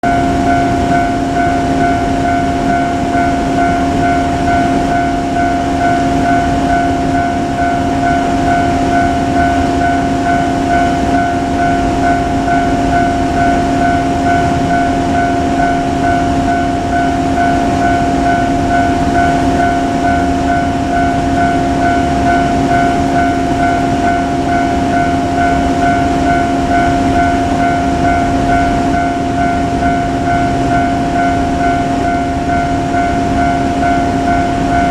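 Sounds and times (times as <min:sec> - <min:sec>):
freight train rumbling: 0:00.0 - 0:34.9
level crossing bell ringing: 0:00.0 - 0:34.9.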